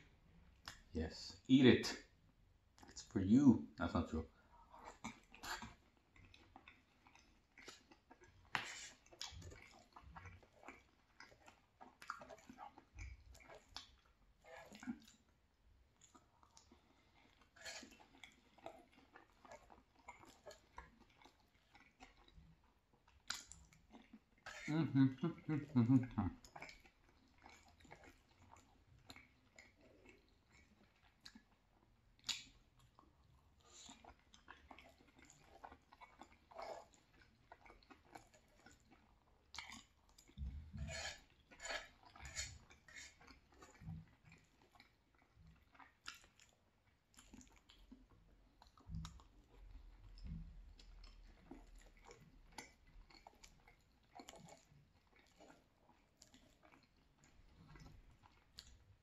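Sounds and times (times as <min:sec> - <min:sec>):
person chewing pasta: 0:00.0 - 0:01.0, 0:01.9 - 0:03.1, 0:04.2 - 0:59.0.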